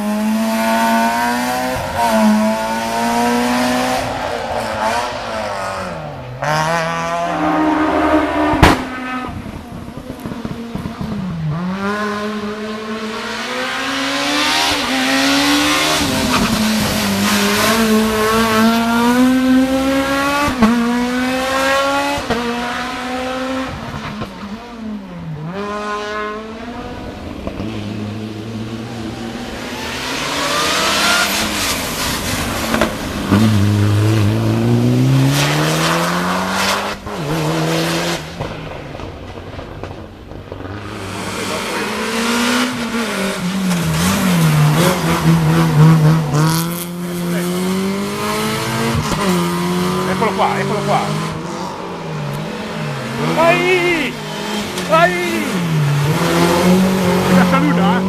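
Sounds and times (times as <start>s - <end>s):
race car engines upshifting: 0.0s - 58.0s.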